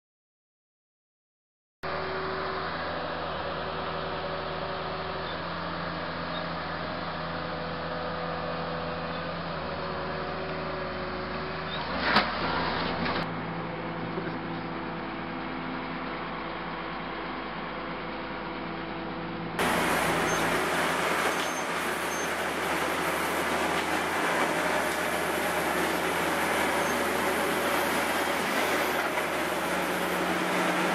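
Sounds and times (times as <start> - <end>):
excavator diesel engine running: 1.9 - 30.9.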